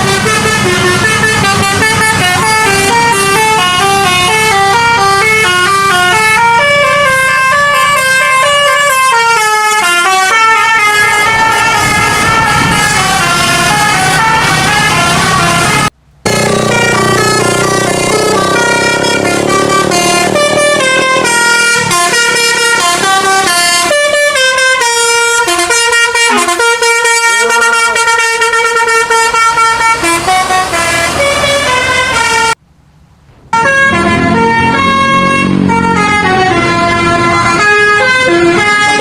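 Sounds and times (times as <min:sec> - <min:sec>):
bus melody horn: 0:00.0 - 0:32.6, 0:33.6 - 0:39.0.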